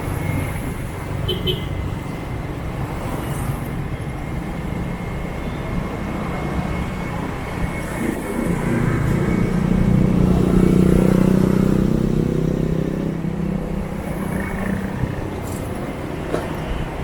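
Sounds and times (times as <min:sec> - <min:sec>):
traffic and road noise: 0:00.0 - 0:17.0.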